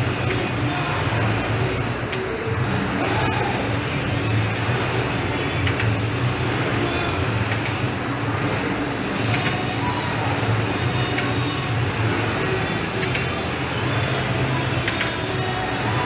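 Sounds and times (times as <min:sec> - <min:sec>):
rowing machine fan whirring: 0:00.0 - 0:16.0.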